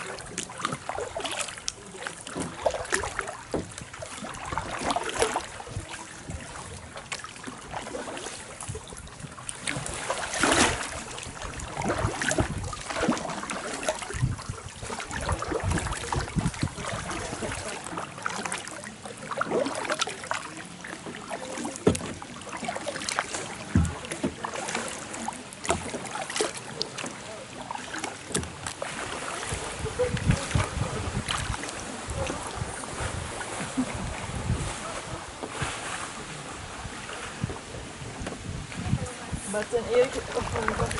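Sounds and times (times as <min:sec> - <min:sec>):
paddles splashing in water: 0:00.0 - 0:40.9.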